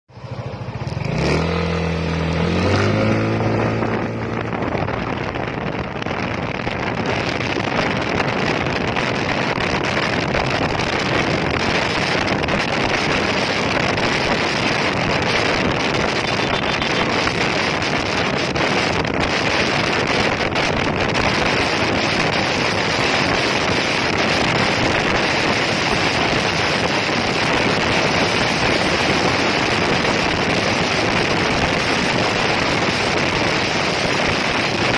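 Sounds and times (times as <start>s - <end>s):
scooter engine at full throttle: 0.1s - 34.9s
wind noise: 0.1s - 34.9s.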